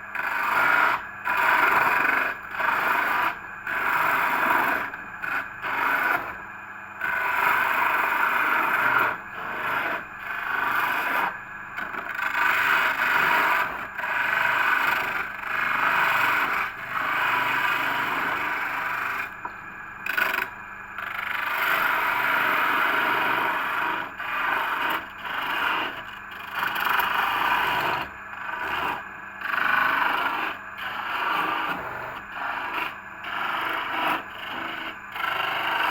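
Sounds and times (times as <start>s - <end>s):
lathe tool scraping workpiece: 0.0s - 6.4s, 7.0s - 35.9s.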